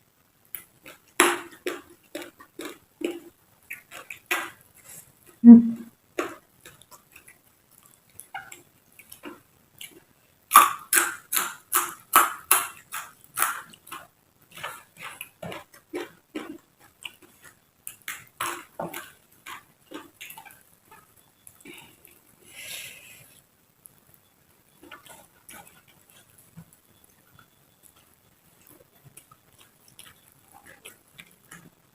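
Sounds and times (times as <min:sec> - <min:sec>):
crunchy chewing of raw vegetables: 0:00.6 - 0:05.4, 0:06.1 - 0:24.0, 0:24.7 - 0:31.9.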